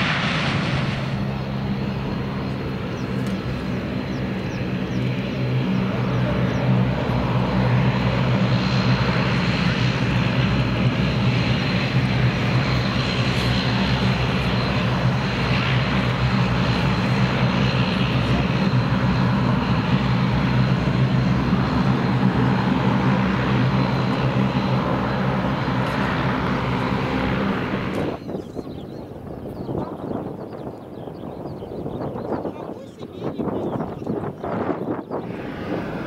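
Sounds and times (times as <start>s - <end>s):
high engine whine: 0.0s - 29.4s, 33.4s - 36.0s
propeller drone: 0.0s - 36.0s.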